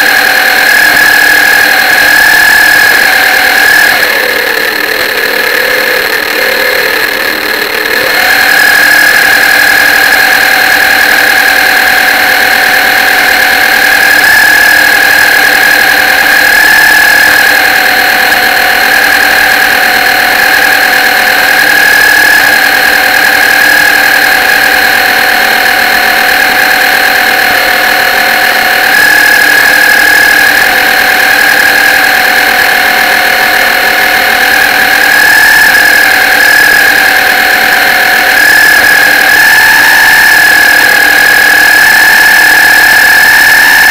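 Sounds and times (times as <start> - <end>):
model boat motor whine: 0.0 - 43.9.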